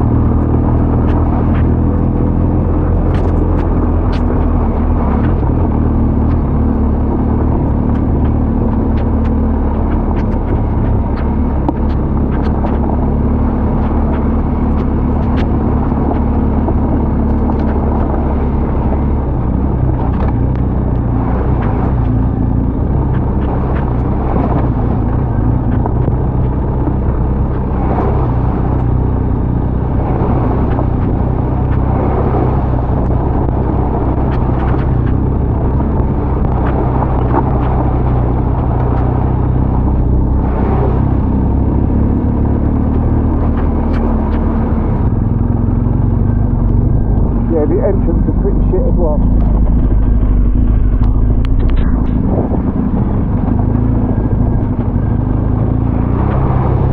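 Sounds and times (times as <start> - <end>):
motorcycle engine running: 0.0 - 56.9
wind noise: 0.0 - 56.9.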